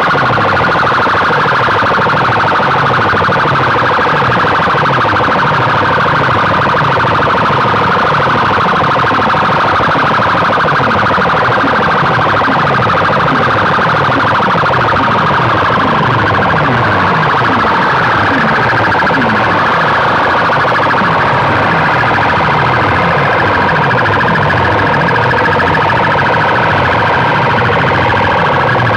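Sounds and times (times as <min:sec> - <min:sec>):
distorted siren-like electronic music: 0:00.0 - 0:28.9.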